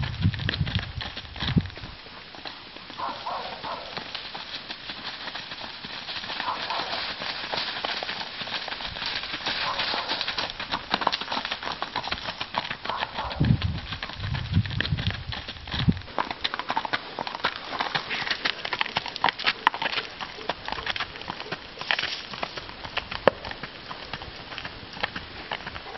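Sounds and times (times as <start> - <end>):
horse hoofbeats on road: 0.0 - 25.9.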